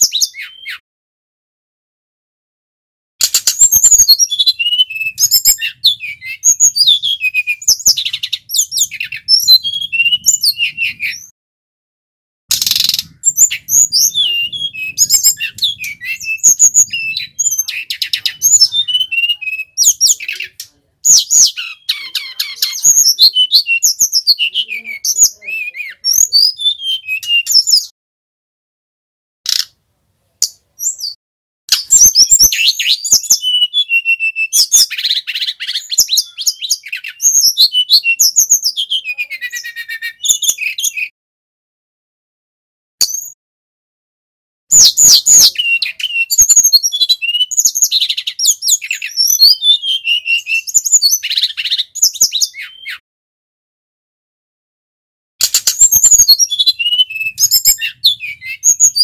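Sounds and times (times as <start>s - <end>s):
bird singing high chirps: 0.0s - 0.8s, 3.2s - 11.3s, 12.5s - 28.0s, 30.4s - 41.1s, 43.0s - 43.4s, 44.7s - 53.0s, 55.4s - 59.0s.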